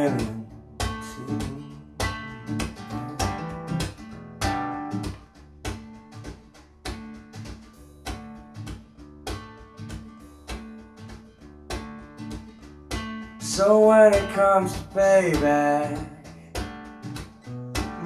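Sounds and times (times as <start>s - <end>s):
acoustic guitar through speakers: 0.0s - 18.0s.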